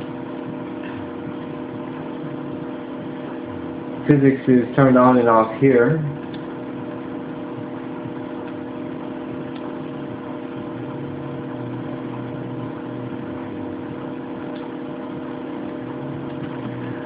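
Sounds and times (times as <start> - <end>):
steady hum with held tones: 0.0 - 17.0.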